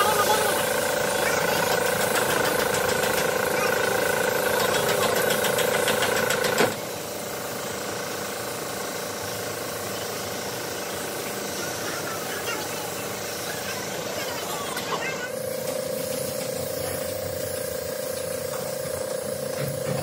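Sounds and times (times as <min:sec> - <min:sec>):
paint spray gun hissing: 0:00.0 - 0:19.9
machine hum with rapid knocking: 0:00.0 - 0:20.0.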